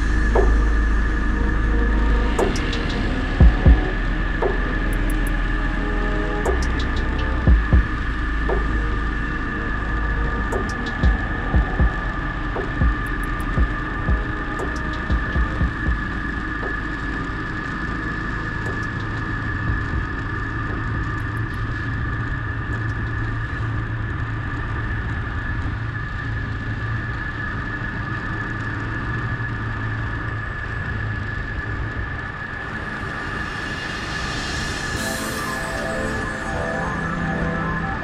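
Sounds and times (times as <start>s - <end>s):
road noise: 0.0s - 22.7s, 23.6s - 38.0s.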